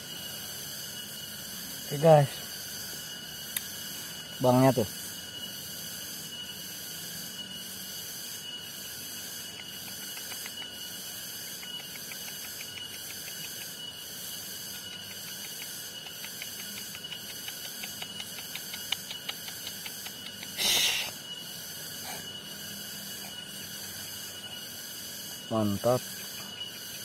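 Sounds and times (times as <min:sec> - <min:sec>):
insects calling in pulsing hiss: 0:00.0 - 0:27.0.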